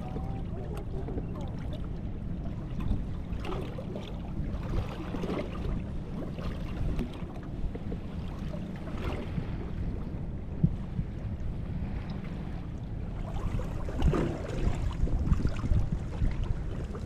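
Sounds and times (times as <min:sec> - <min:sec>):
waves splashing against boat hull: 0:00.0 - 0:17.0
wind buffeting microphone: 0:00.0 - 0:17.0.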